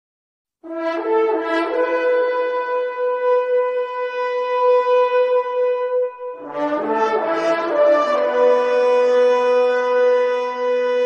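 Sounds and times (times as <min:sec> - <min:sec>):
horn-like notes: 0:00.6 - 0:11.0.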